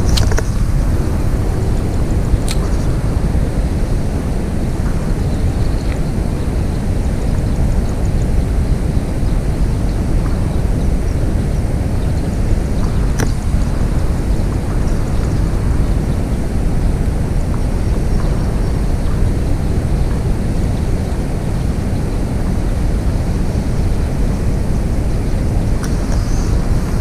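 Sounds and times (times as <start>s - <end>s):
low rumbling noise: 0.0s - 27.0s.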